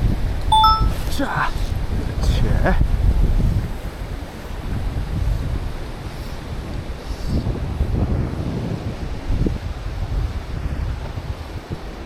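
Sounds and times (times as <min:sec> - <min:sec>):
wind buffeting microphone: 0:01.7 - 0:12.0.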